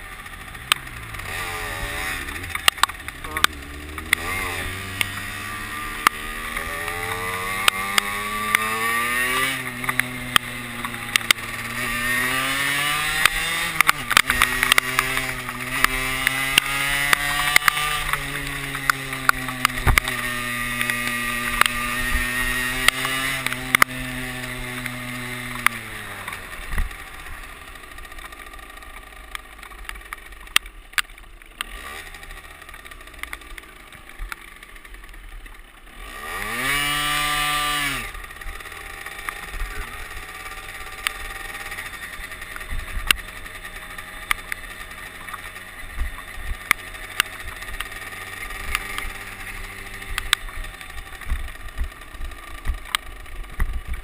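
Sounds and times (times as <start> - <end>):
moped engine accelerating: 0.0 - 54.0.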